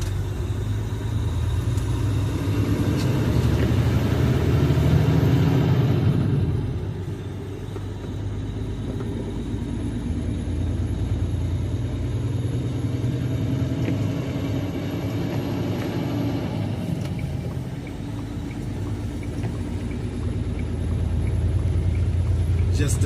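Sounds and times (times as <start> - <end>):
diesel truck engine rumble: 0.0 - 23.0
road noise inside cab: 0.0 - 23.0.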